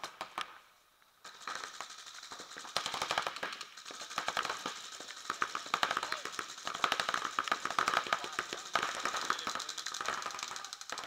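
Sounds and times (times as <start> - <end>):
paintball markers firing: 1.2 - 11.0.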